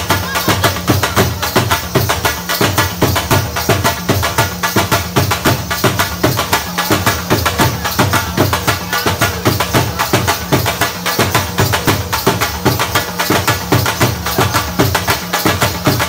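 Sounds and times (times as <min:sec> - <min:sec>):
dhol drums beating fast rhythm: 0:00.0 - 0:16.0.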